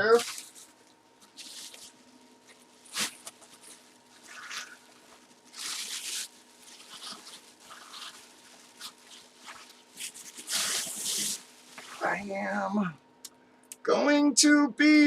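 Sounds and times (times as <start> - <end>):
packaging rustling and scraping: 0.1 - 12.3.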